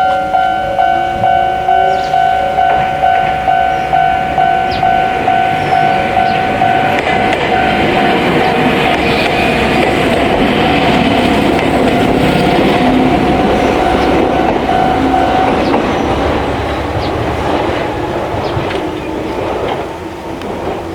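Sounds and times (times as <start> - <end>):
train wheels clacking over rail joints: 1.2 - 20.9.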